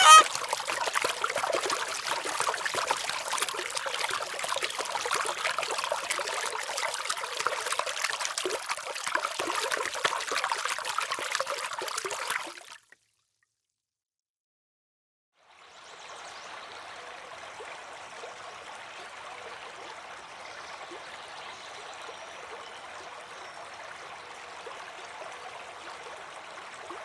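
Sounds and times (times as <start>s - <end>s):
water trickling and splashing: 0.0s - 13.1s, 15.5s - 27.0s.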